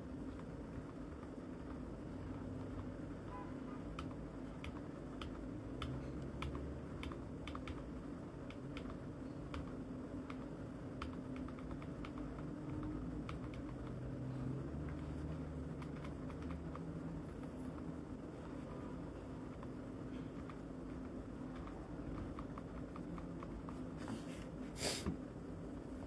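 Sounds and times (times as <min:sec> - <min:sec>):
steady low hum: 0:00.0 - 0:26.0
keyboard typing: 0:00.1 - 0:18.0, 0:19.4 - 0:24.0.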